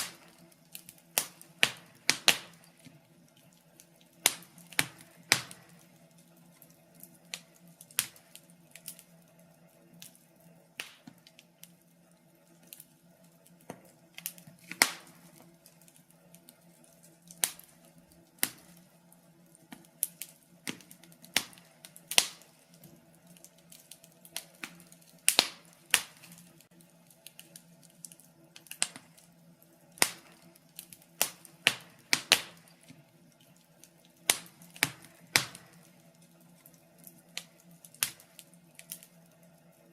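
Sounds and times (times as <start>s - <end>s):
logs crackling in a fireplace: 0.0s - 39.9s.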